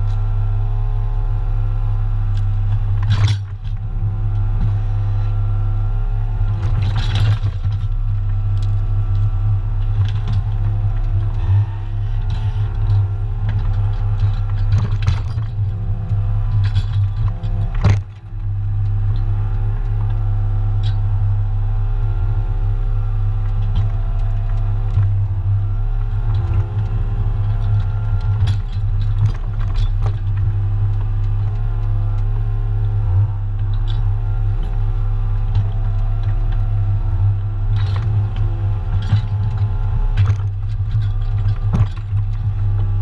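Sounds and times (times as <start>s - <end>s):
excavator diesel engine hum: 0.0s - 43.0s
hydraulic whine: 0.0s - 43.0s.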